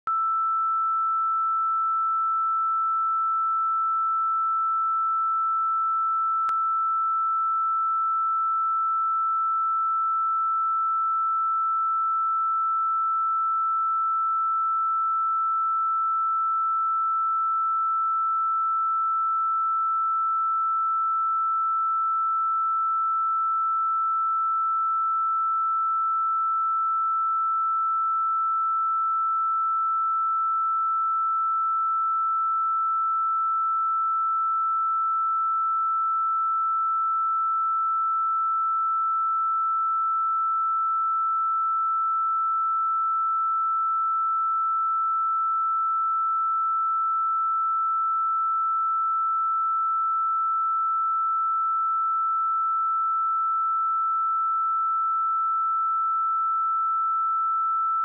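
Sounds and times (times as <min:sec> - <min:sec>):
sine-wave test tone: 0:00.0 - 0:58.0.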